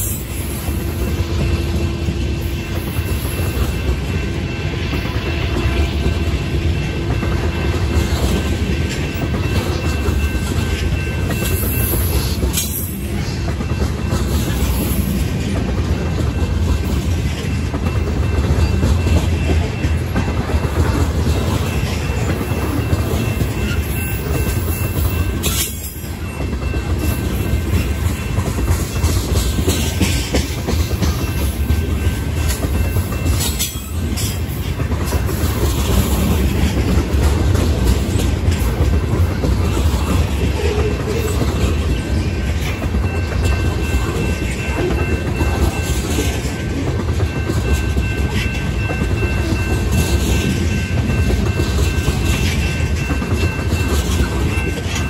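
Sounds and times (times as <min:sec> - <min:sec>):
clickety-clack over rail joints: 0:00.0 - 0:55.0
train wheels rumbling on rail: 0:00.0 - 0:55.0.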